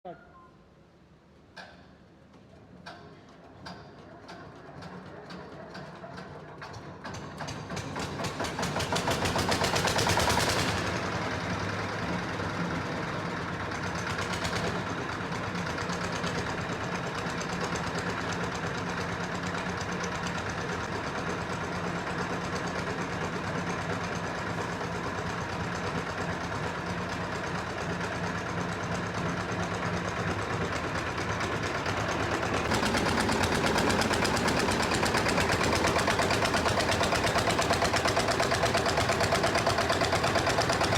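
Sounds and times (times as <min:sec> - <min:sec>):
diesel engine knocking: 0:03.6 - 0:40.9.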